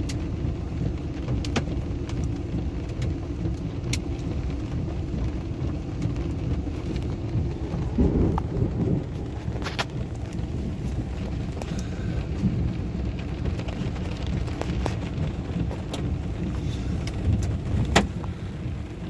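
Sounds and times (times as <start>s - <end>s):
hailstones striking: 0.0s - 19.0s
heavy rain: 0.0s - 19.0s.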